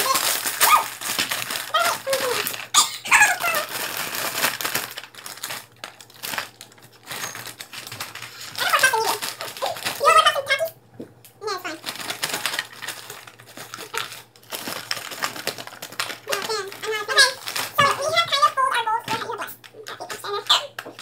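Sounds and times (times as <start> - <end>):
chips clattering into plastic bowls: 0.0 - 10.7, 11.6 - 21.0
foil snack bags crinkling: 0.0 - 10.7, 11.4 - 21.0.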